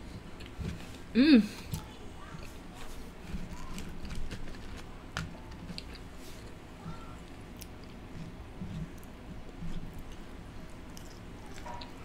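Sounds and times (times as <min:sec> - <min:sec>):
fingers rustling fries in paper: 0:01.8 - 0:12.0
close chewing with mouth clicks: 0:02.2 - 0:12.0.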